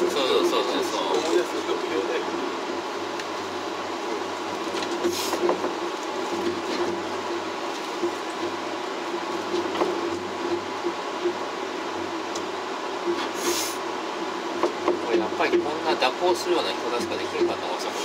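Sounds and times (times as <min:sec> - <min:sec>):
cable car running hum: 0:00.0 - 0:18.0.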